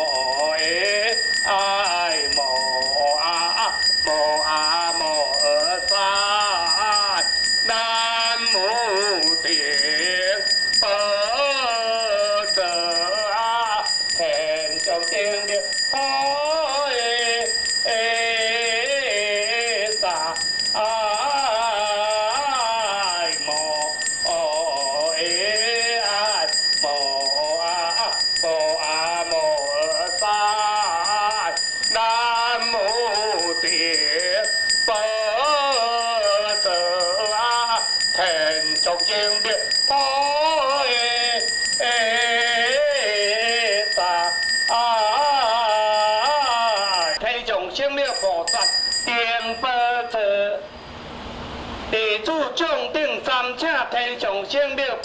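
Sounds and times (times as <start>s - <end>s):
hand bell shaken: 0.0s - 47.2s, 48.1s - 49.6s
melodic chanting: 0.0s - 47.3s.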